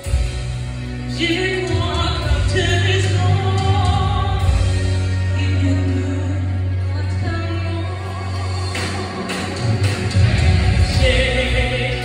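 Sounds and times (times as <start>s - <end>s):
heavy bass line: 0.0s - 12.0s
instrumental accompaniment: 0.0s - 12.0s.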